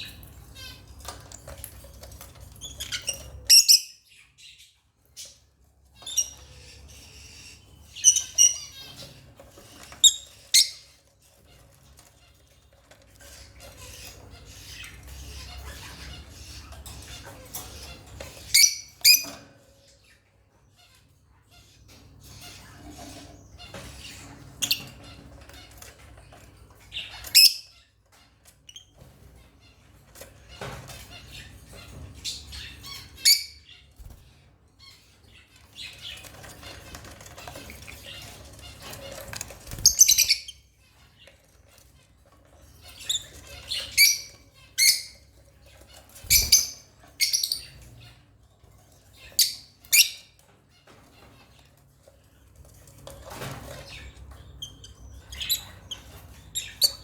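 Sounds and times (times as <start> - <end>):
lovebirds chirping and squawking: 0.0 - 57.0.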